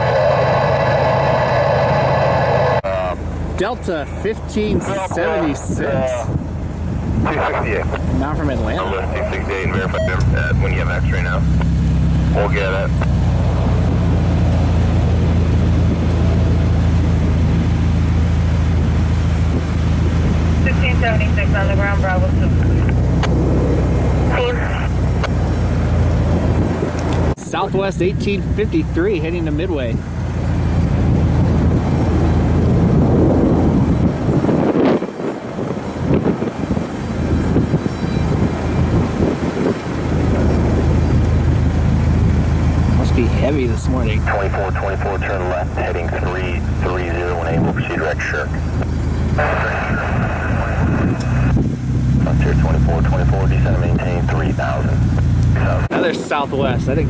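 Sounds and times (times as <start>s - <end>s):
faint high whine: 0.0s - 57.0s
low engine rumble: 0.0s - 57.0s.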